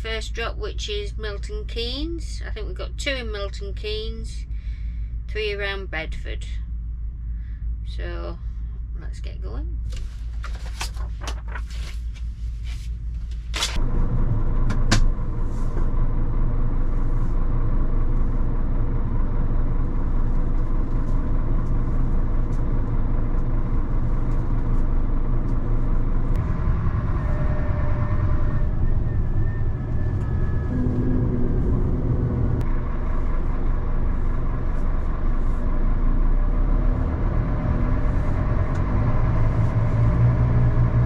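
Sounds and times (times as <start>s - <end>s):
lorry diesel engine running: 0.0s - 41.0s.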